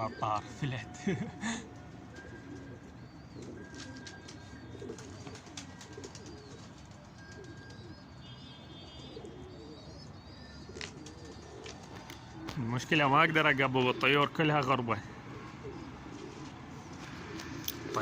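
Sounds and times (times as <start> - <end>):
pigeons cooing: 0.0 - 18.0
small birds chirping: 0.0 - 18.0.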